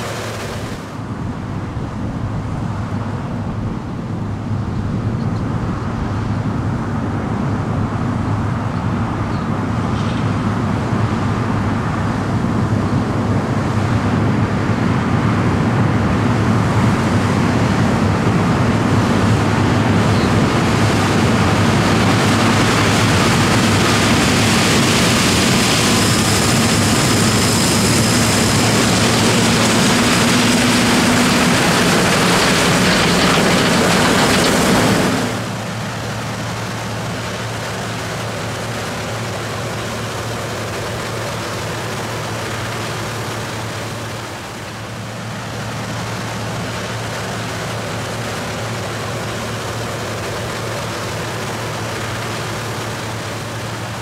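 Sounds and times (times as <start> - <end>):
mechanical rushing noise: 0.0 - 1.1, 9.6 - 54.0
engine hum: 0.0 - 54.0.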